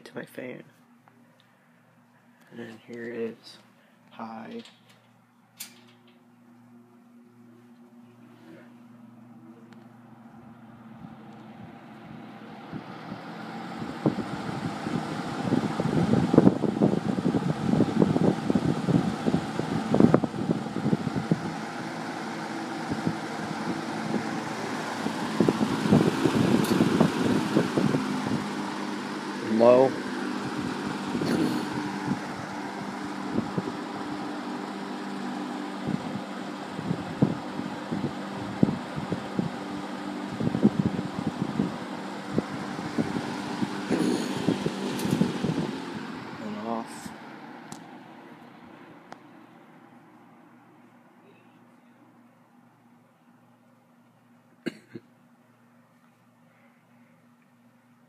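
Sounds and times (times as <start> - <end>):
fan air buffeting microphone: 0.0 - 58.0
fan motor hum: 0.0 - 58.0.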